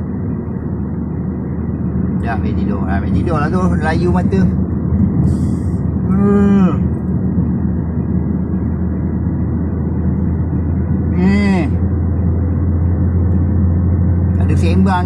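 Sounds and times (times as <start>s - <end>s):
car cabin hum: 0.0s - 15.0s.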